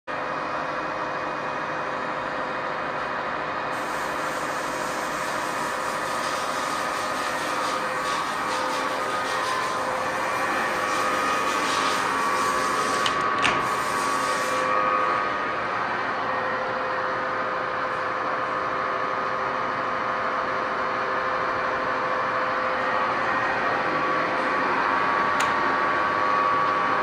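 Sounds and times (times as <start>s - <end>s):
machinery humming with whining tones: 0.1s - 27.0s.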